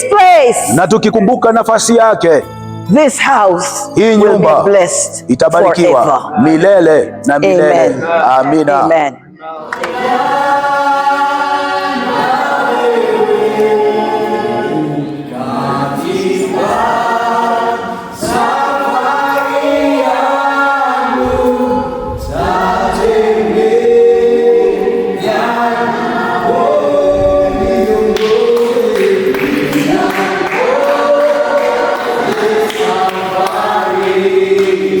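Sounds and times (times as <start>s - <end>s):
choir singing gospel: 3.6s - 35.0s.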